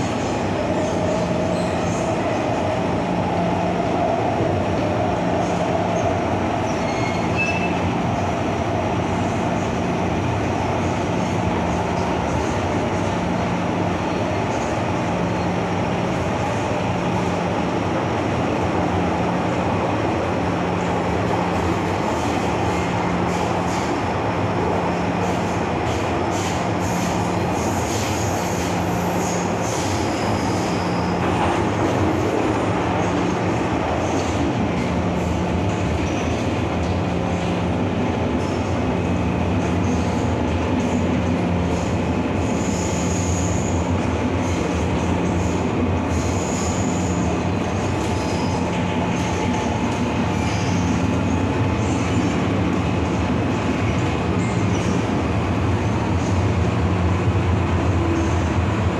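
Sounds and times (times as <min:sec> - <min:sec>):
low train hum: 0:00.0 - 0:58.9
train wheels on rails: 0:00.0 - 0:58.9.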